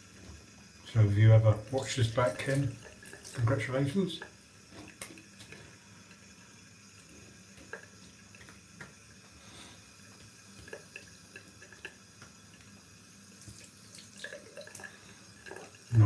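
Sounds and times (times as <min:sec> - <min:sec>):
water dripping and splashing: 0:00.0 - 0:16.0.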